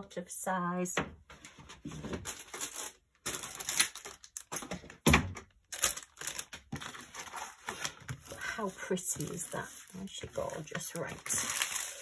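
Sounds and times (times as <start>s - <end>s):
plastic packaging rustling: 1.6s - 12.0s.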